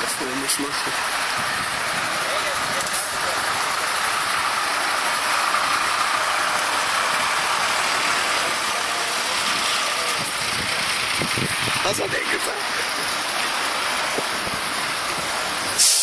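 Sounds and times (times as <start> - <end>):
fire engines idling: 0.0 - 16.0.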